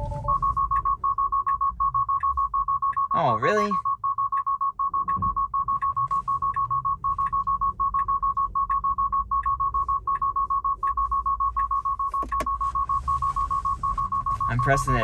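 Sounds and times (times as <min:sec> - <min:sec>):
low road rumble: 0:00.0 - 0:15.0
rapid high beeps: 0:00.0 - 0:15.0.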